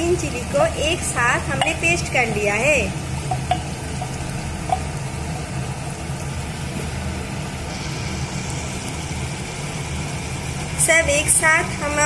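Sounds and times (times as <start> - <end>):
paste frying in oil: 0.0 - 12.0
steady low hum: 0.0 - 12.0.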